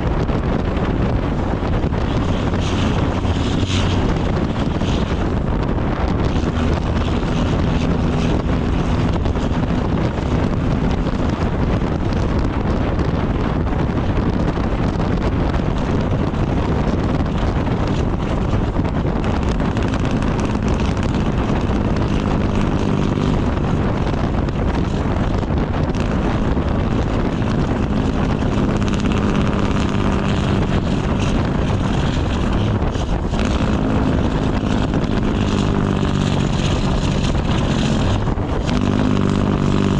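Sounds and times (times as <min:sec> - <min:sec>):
diesel truck exhaust drone: 0:00.0 - 0:39.9.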